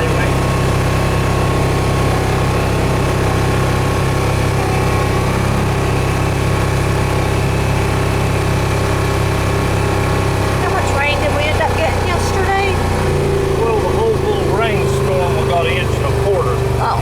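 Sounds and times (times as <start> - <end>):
tractor engine humming steadily: 0.0 - 17.0.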